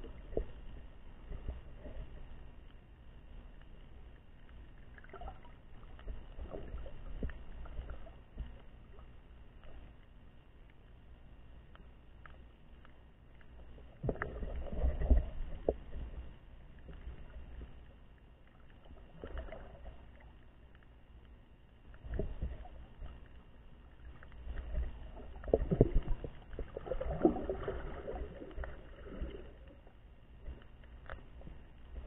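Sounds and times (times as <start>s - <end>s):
muffled underwater sloshing: 0.0s - 32.0s.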